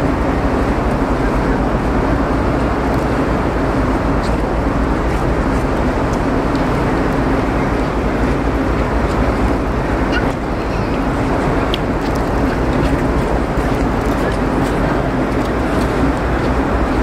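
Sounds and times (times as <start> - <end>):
ferry engine hum: 0.0 - 17.0.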